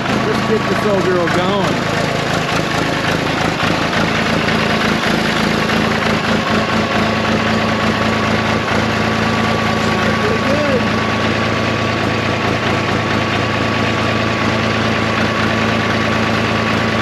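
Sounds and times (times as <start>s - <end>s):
dozer engine idling: 0.0s - 17.0s.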